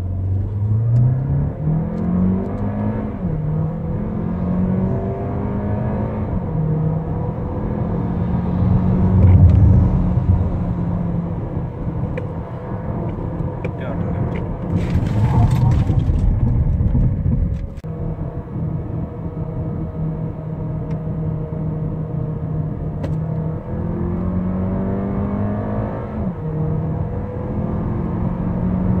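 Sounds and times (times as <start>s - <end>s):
car engine running: 0.0s - 24.5s
road rumble: 0.0s - 29.0s.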